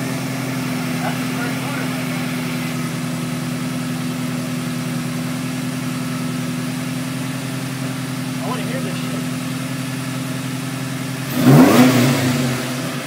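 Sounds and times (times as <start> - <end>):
supercharged engine idling: 0.0 - 13.0.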